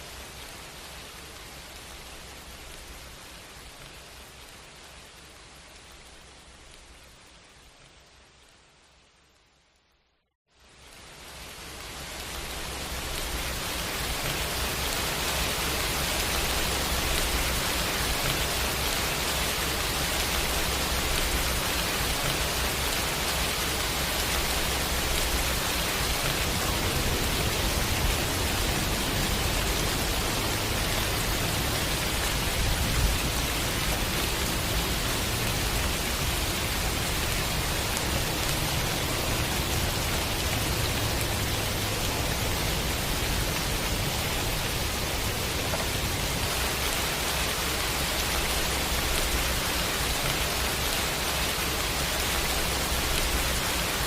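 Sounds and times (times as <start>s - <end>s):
steady dense rainfall: 0.0s - 54.0s.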